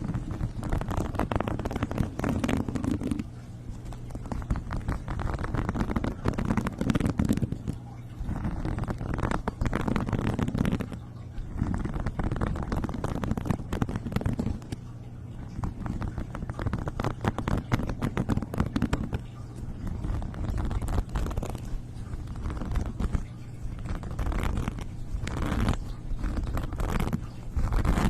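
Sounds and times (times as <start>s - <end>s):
clicking and scratching: 0.0s - 28.0s.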